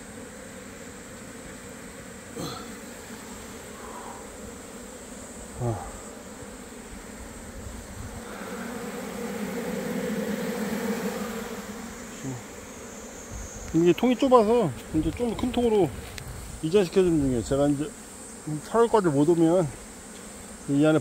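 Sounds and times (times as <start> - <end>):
bee flying close by: 0.0 - 21.0
swarm of bees buzzing: 0.0 - 21.0.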